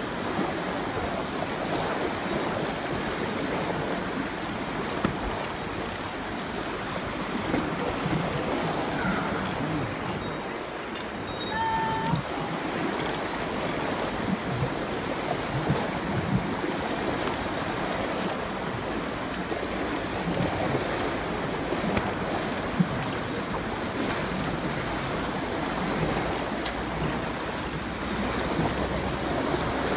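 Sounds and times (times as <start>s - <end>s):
fast-flowing river rushing: 0.0s - 29.9s
water splashing around legs: 0.0s - 29.9s.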